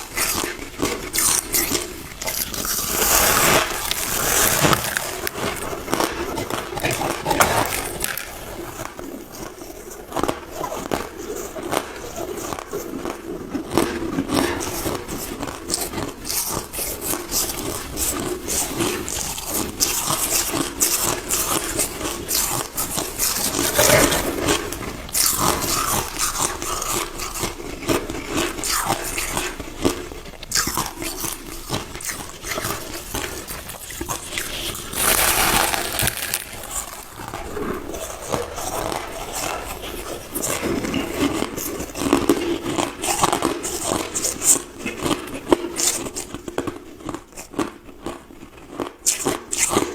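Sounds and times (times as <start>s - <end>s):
crushed ice being chewed: 0.0s - 49.9s.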